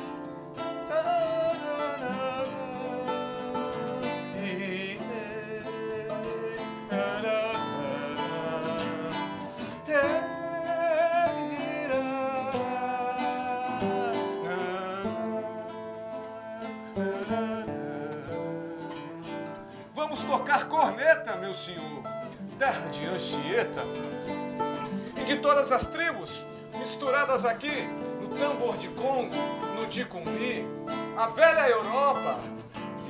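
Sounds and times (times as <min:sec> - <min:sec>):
acoustic guitar: 0:00.0 - 0:33.0.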